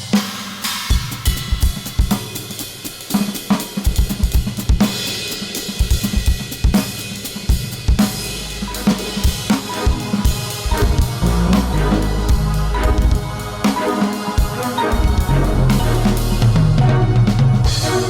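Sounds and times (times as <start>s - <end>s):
cymbals and hi-hat: 0.0s - 18.0s.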